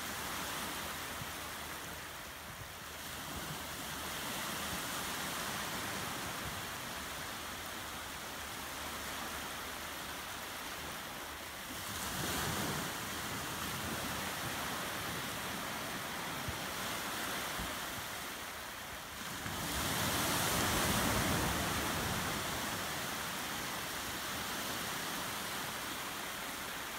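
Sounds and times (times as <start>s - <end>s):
small waves washing on beach: 0.0s - 26.9s.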